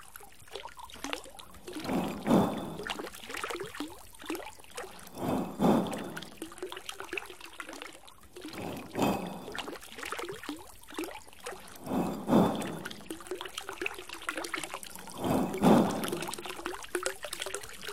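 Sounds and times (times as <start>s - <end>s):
gush of pouring water: 0.0s - 17.9s
water trickling and gurgling: 0.0s - 17.9s.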